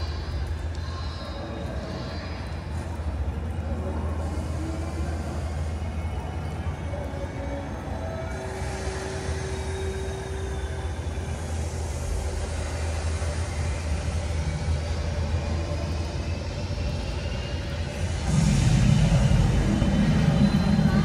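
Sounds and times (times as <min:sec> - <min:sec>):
constant low rumble: 0:00.0 - 0:21.0
rain hiss: 0:00.0 - 0:21.0.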